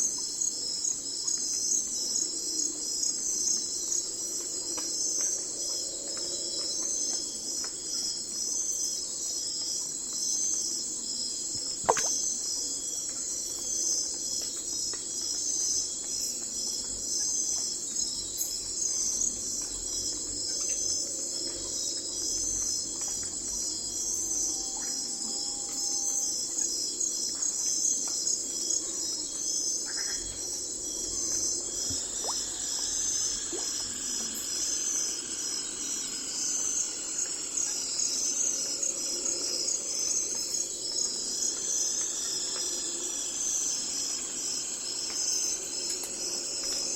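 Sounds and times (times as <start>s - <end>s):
crickets trilling: 0.0s - 46.9s
hum of night creatures: 0.0s - 46.9s.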